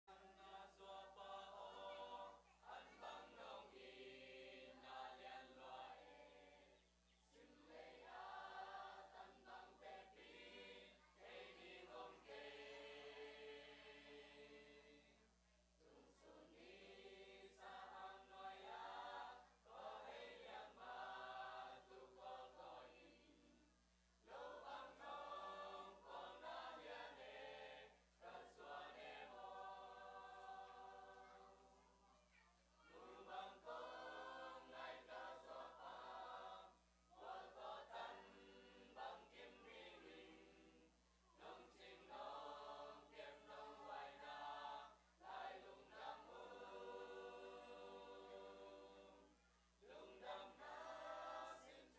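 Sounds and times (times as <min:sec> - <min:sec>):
choir singing a hymn: 0:00.1 - 0:31.8, 0:32.8 - 0:51.9.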